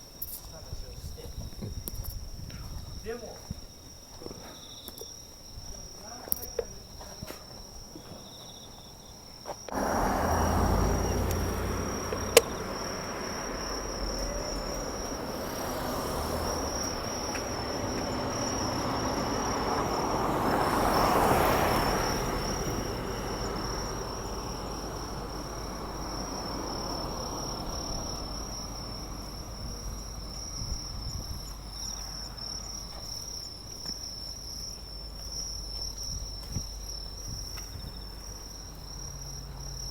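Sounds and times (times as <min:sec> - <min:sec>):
insects singing: 0:00.0 - 0:39.9.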